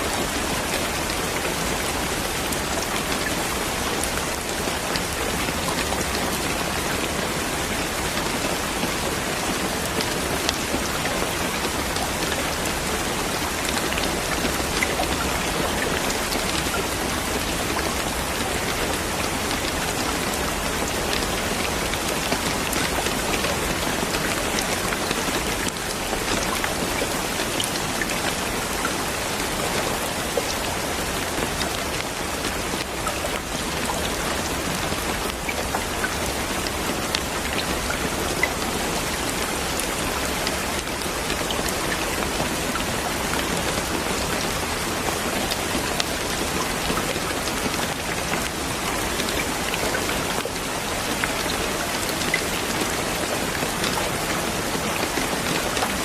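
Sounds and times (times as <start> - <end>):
raindrops ticking on a surface: 0.0 - 56.0
steady rain falling: 0.0 - 56.0.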